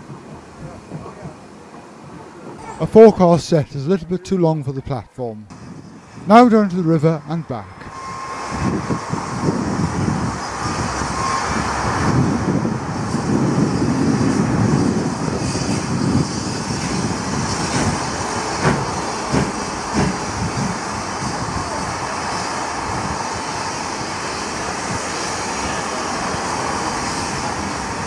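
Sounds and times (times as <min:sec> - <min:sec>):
steam locomotive working rumble: 0:00.0 - 0:02.8, 0:07.6 - 0:28.0.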